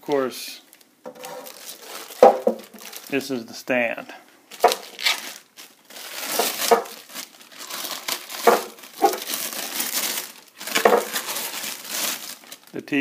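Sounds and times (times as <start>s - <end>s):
plastic wrapping crinkling: 0.7s - 3.3s, 4.5s - 13.0s.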